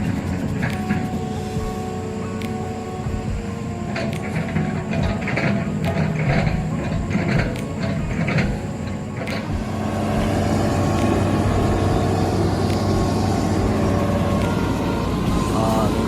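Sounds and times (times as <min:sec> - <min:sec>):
motor engine running: 0:00.0 - 0:16.0
sharp knocks and clatter: 0:02.4 - 0:16.0.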